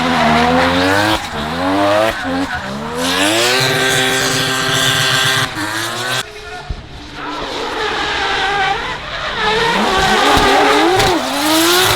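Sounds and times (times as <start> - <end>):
car engine revving hard: 0.0 - 6.2, 8.3 - 11.9.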